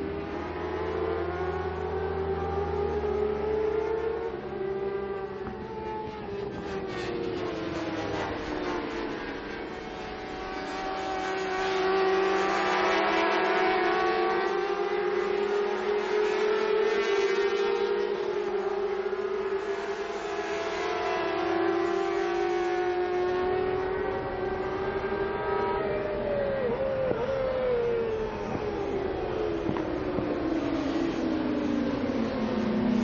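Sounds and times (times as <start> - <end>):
racing motorcycles at high revs: 0.0 - 33.0.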